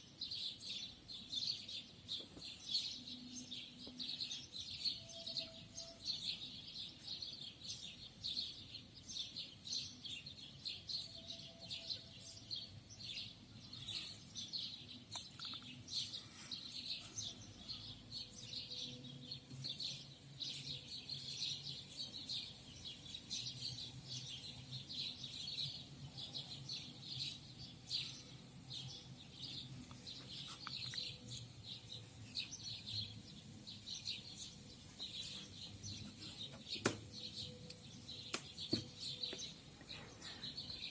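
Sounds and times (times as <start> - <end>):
songbirds chirping chorus: 0.0 - 40.9.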